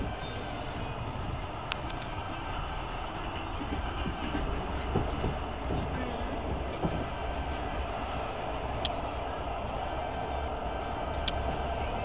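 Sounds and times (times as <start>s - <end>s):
train carriage running rumble: 0.0s - 12.0s.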